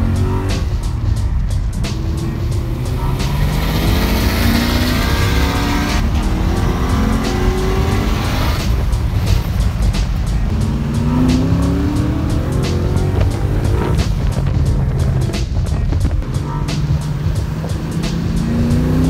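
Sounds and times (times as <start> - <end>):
background music: 0.0 - 19.0
car engine accelerating: 0.0 - 19.0.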